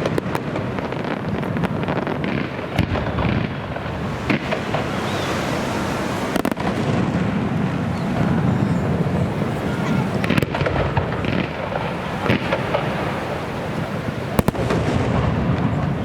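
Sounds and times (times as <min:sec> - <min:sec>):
fireworks rumble and crackle: 0:00.0 - 0:16.0
sharp firework bangs: 0:00.0 - 0:16.0.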